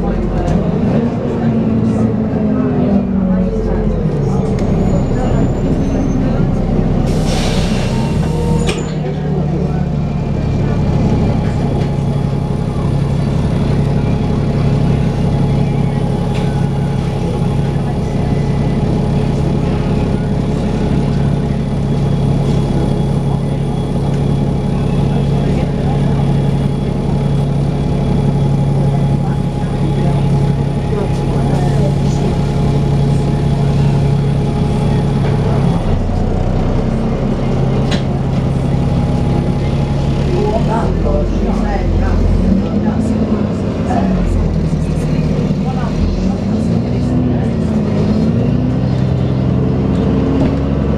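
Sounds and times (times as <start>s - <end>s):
bus engine humming: 0.0s - 50.9s.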